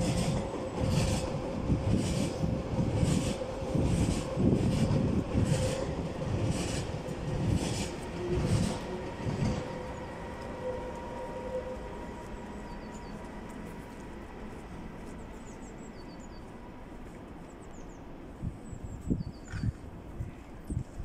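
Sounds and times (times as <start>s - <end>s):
electric train rumble and whine: 0.0s - 21.0s.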